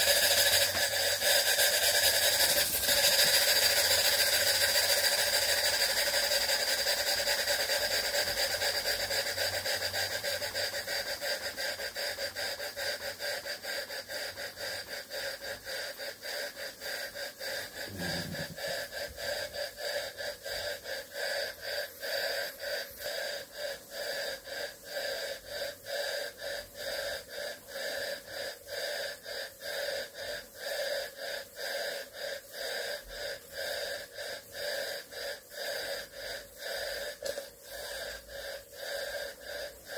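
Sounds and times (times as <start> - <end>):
loud steam hiss: 0.0 - 39.9
steam engine exhaust chuffing: 0.0 - 39.9.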